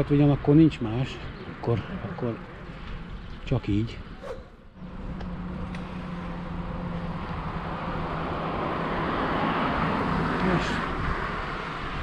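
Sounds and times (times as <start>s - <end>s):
vehicle engine hum with tyre noise: 0.0s - 12.0s.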